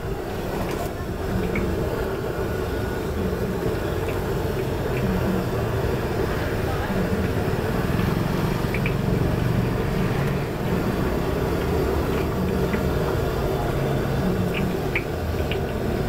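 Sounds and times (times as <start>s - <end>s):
oil sizzling in wok: 0.0s - 16.0s.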